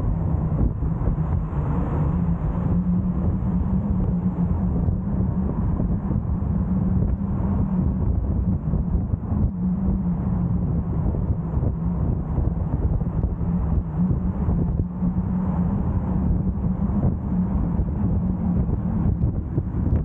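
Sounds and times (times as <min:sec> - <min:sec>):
car engine drone: 0:00.0 - 0:20.0
wind: 0:00.0 - 0:20.0.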